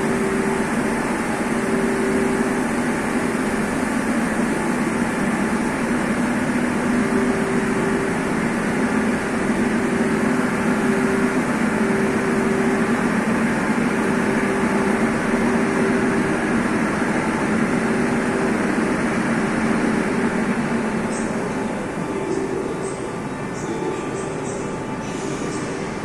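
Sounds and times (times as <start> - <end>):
subway train equipment humming: 0.0 - 26.0.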